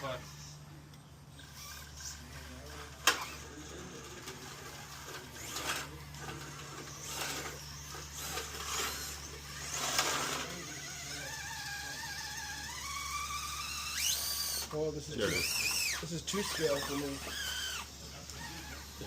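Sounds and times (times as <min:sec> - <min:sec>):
small electric motor whirring: 0:00.0 - 0:19.0.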